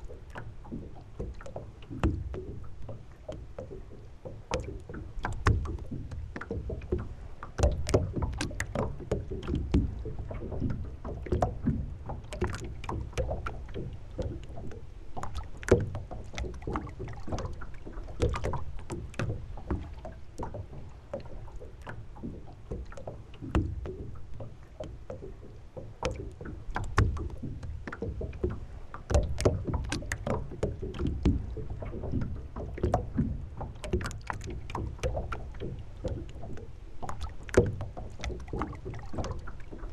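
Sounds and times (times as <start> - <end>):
constant low rumble: 0.0 - 39.9
waves slapping against boat hull: 0.0 - 39.9.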